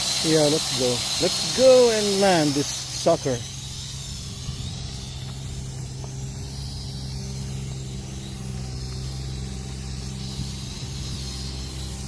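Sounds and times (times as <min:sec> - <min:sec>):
drone propellers humming: 0:00.0 - 0:12.0
wind hiss: 0:00.0 - 0:12.0.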